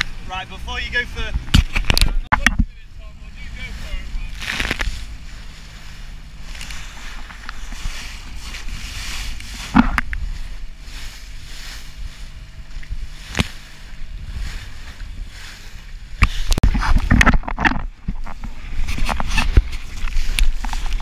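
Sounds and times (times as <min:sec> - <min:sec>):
outboard engine drone: 0:00.0 - 0:21.0
wind buffeting: 0:00.0 - 0:21.0.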